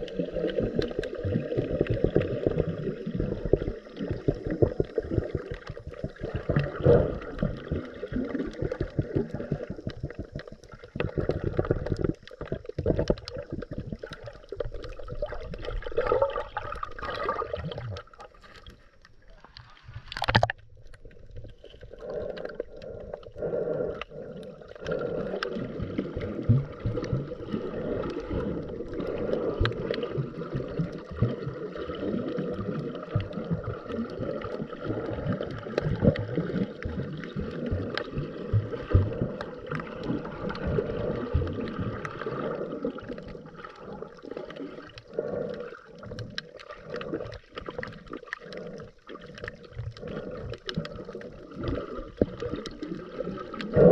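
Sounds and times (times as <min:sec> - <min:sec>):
diver's exhaled bubbles gurgling: 0:00.0 - 0:53.9.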